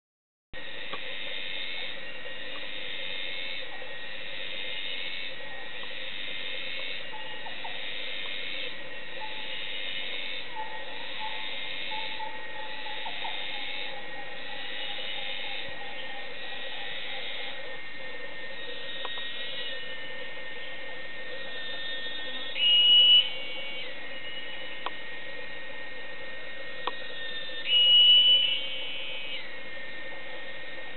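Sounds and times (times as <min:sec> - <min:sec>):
insect chorus shrilling: 0:00.6 - 0:24.9, 0:26.8 - 0:29.6
high insect calls: 0:00.6 - 0:30.9.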